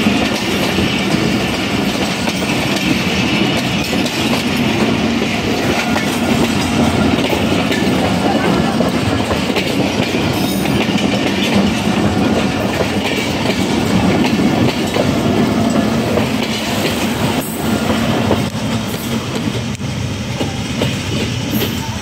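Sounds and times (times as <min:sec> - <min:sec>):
train wheels clattering over rail joints: 0:00.0 - 0:21.8.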